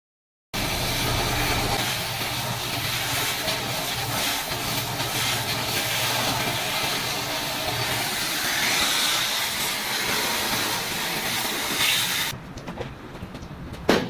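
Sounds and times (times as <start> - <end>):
loud hissing noise: 0.6 - 12.3.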